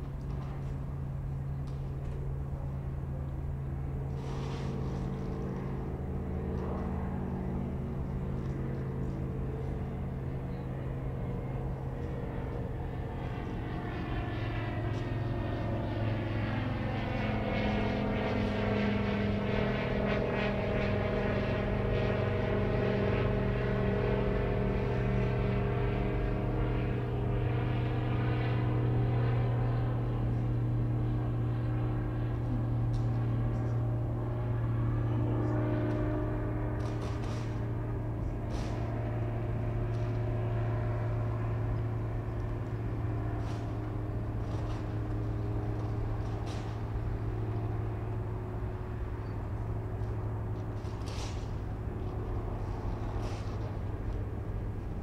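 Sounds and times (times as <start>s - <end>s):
radial aircraft engine idling: 0.0s - 55.0s.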